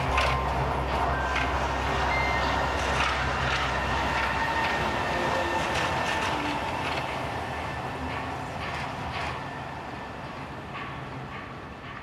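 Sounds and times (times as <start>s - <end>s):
monorail train rumble: 0.0s - 12.0s.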